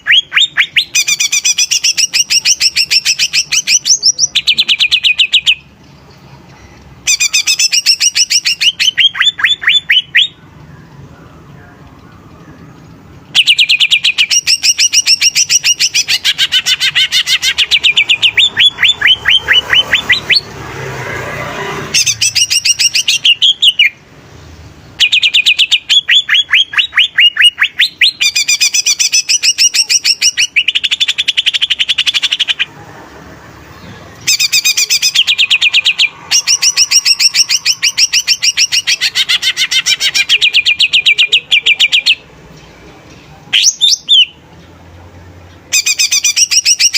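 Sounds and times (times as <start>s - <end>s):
bird singing rapid sharp notes: 0.0s - 24.1s, 24.8s - 32.8s, 33.6s - 46.9s.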